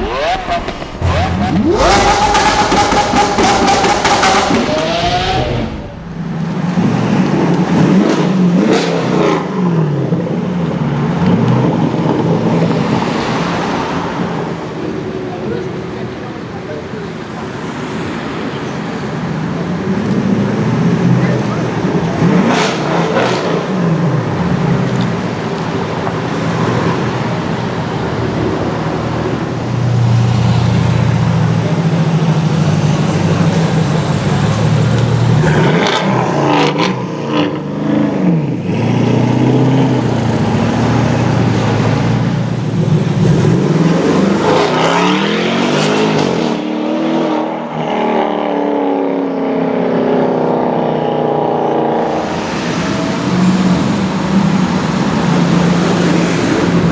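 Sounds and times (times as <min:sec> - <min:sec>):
loud car engine revving: 0:00.0 - 0:56.9.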